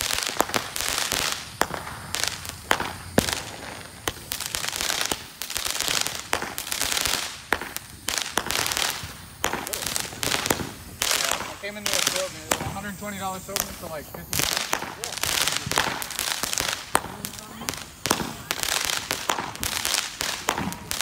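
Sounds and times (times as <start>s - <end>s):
fireworks bangs: 0.0s - 21.0s
fireworks crackling and hissing: 0.0s - 21.0s.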